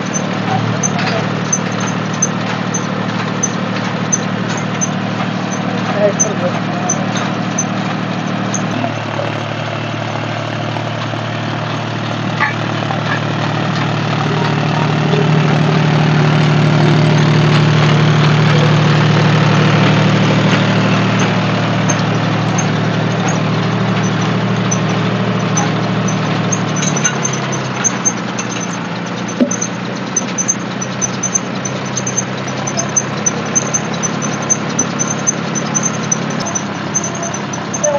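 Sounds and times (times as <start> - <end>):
diesel tractor engine running: 0.0 - 37.9.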